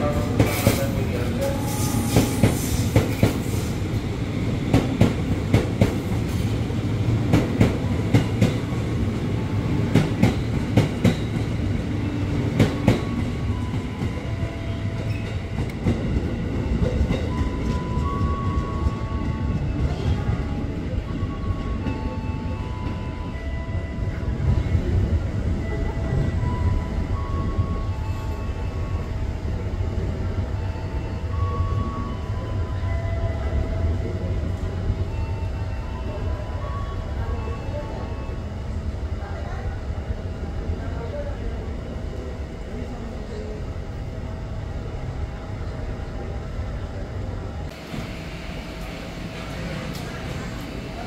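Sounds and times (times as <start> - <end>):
hissy platform ambience: 0.0 - 51.0
train wheels rumbling on rail: 0.0 - 51.0.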